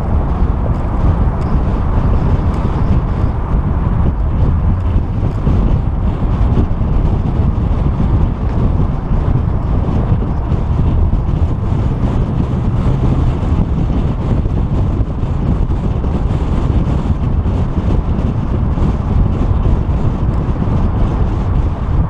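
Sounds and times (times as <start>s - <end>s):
car engine running: 0.0s - 22.0s
road noise: 0.0s - 22.0s
wind buffeting microphone: 0.0s - 22.0s.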